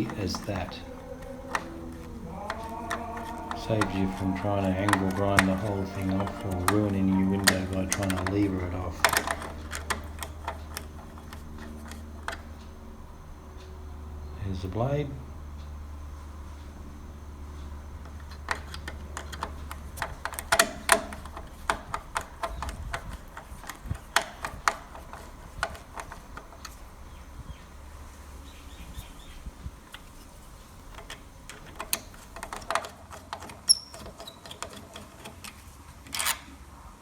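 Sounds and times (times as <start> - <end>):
small hard objects clicking: 0.0 - 13.3, 17.6 - 35.6
low hum: 0.0 - 32.7.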